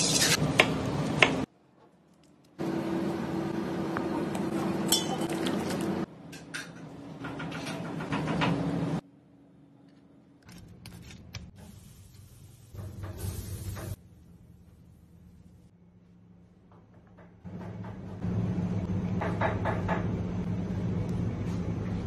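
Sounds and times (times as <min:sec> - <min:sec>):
kitchen hum: 0:00.0 - 0:22.0.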